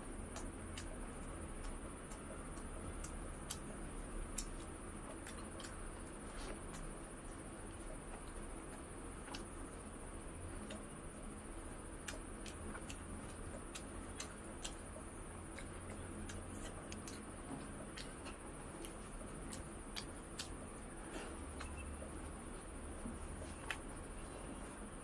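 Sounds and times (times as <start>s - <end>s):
person chewing and eating: 0.0s - 25.0s.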